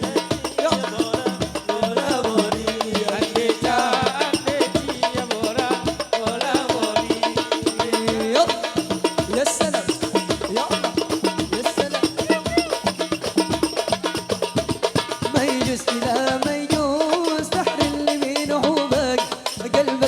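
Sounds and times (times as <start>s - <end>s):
percussion with steady beat: 0.0s - 20.0s.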